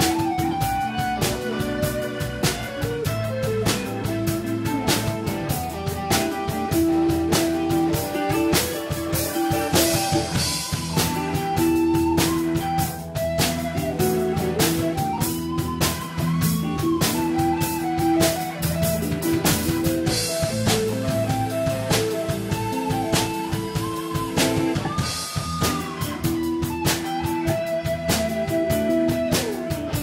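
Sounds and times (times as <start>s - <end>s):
drum kit beat: 0.0s - 30.0s
electric guitar lead: 0.0s - 30.0s.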